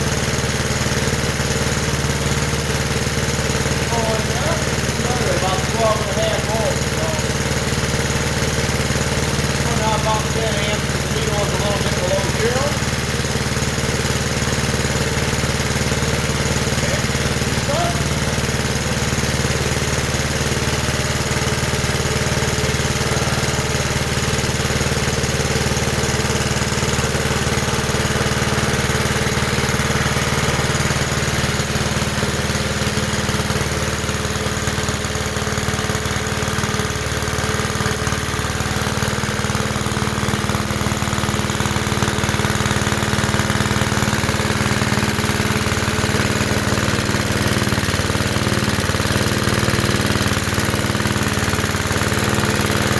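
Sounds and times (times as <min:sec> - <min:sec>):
small gasoline engine running: 0:00.0 - 0:52.9.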